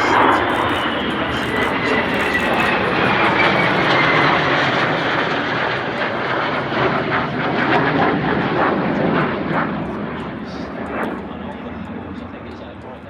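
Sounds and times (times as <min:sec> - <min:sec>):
jet engines passing overhead: 0:00.0 - 0:13.0.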